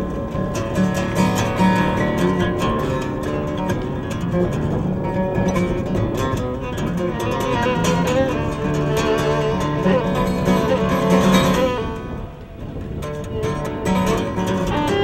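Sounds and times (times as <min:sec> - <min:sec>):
bowed violin melody: 0:00.0 - 0:15.0
strummed acoustic guitar: 0:00.0 - 0:15.0.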